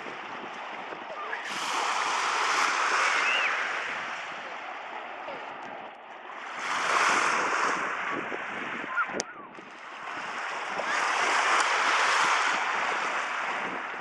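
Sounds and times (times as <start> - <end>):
small waves washing on shore: 0.0 - 14.0.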